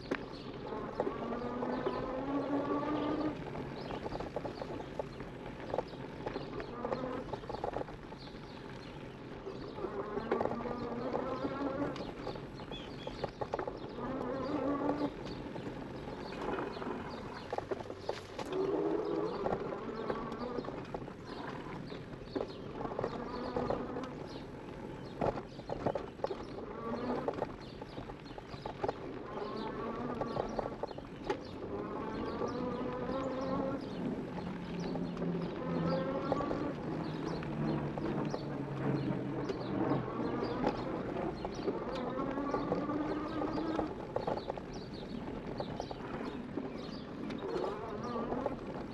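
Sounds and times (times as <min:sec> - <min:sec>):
bike rattling on dirt trail: 0:00.0 - 0:48.9
electric bike motor whining: 0:00.3 - 0:48.9.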